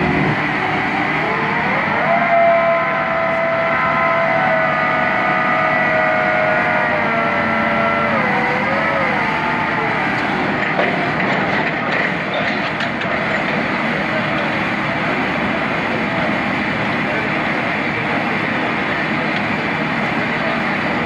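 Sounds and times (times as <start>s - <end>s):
piling rig engine whine: 0.0s - 21.0s.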